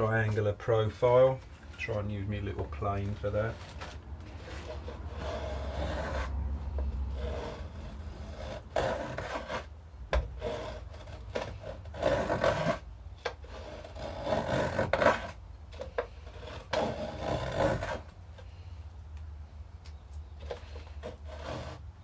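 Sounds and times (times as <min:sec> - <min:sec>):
hand plane shaving wood: 0:00.0 - 0:18.6, 0:20.4 - 0:22.0.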